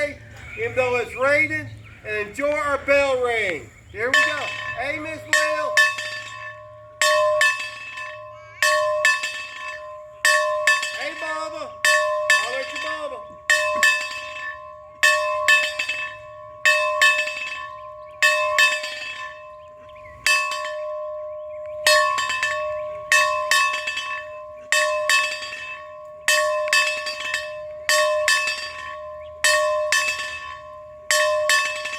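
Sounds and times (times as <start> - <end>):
bell ringing: 4.0 - 31.9.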